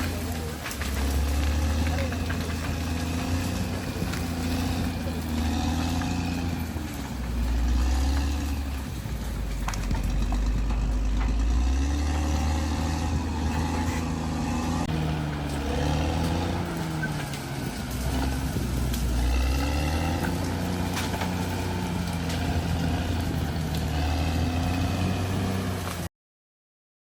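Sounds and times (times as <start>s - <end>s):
bulldozer diesel engine drone: 0.0s - 26.1s.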